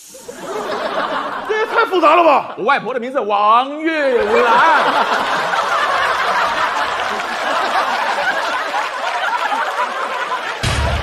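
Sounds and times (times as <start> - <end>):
audience laughing: 0.1 - 2.6, 4.1 - 11.0.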